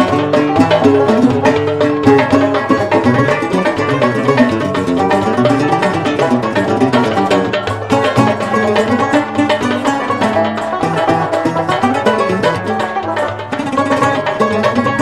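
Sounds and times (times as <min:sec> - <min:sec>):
plucked string instrumental music: 0:00.0 - 0:15.0.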